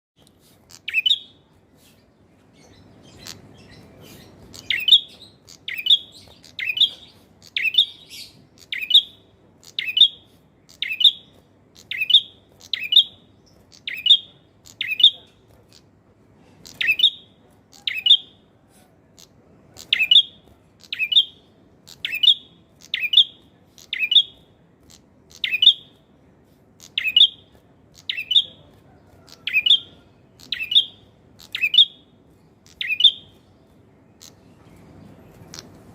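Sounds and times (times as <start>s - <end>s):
bird chirping: 0.2s - 18.5s, 19.2s - 26.2s, 26.8s - 35.9s.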